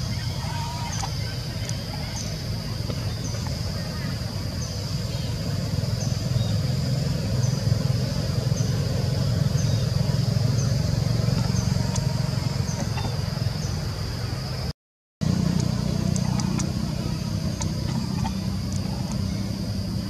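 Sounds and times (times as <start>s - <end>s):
steady high drone: 0.0s - 20.0s
steady low rumble: 0.0s - 20.0s.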